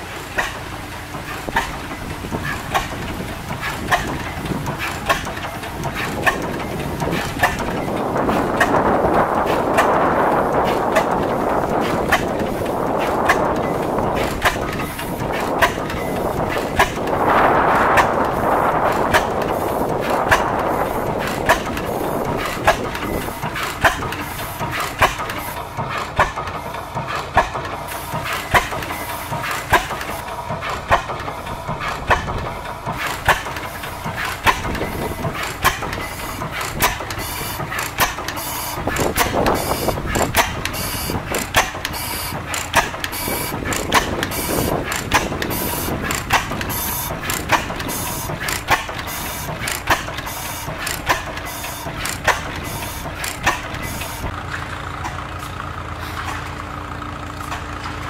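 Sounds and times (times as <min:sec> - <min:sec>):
single-cylinder engine beating: 0:00.0 - 0:58.0.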